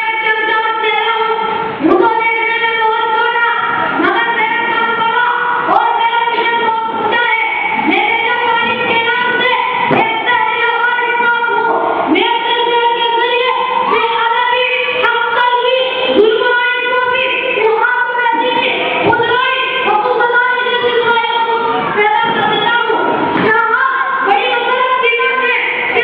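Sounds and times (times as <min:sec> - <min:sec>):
person singing through loudspeakers: 0:00.0 - 0:26.0.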